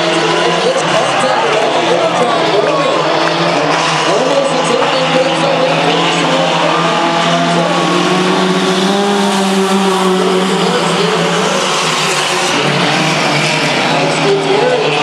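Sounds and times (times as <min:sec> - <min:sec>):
race engines running together: 0:00.0 - 0:15.0.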